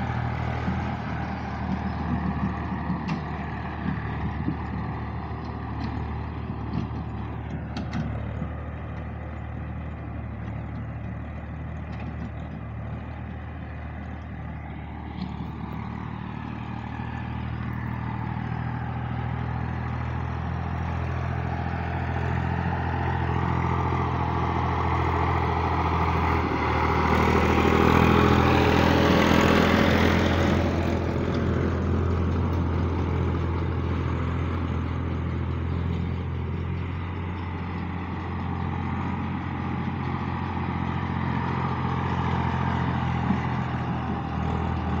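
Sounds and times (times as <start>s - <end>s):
round baler working hay: 0.0s - 45.0s
tractor diesel engine under load: 0.0s - 45.0s.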